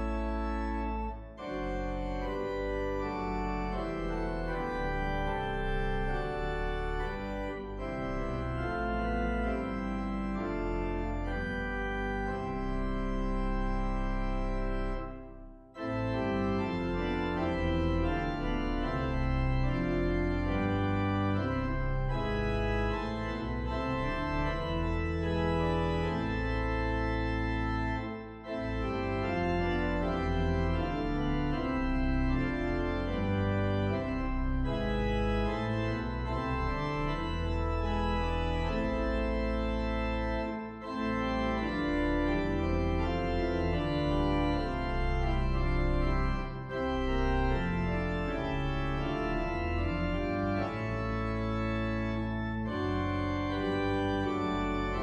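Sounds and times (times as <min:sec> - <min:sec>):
organ playing slow chords: 0:00.0 - 0:55.0.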